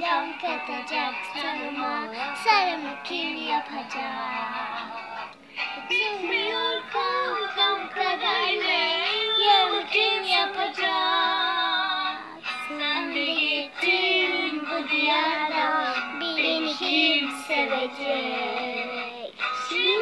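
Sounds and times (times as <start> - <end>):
girl singing: 0.0 - 5.2, 5.8 - 20.0.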